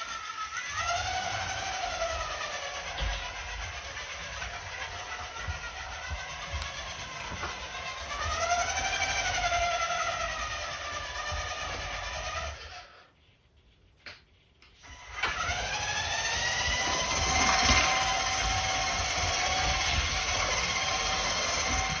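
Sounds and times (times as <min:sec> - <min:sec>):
toy car electric motor whining: 0:00.0 - 0:13.1, 0:14.8 - 0:22.0.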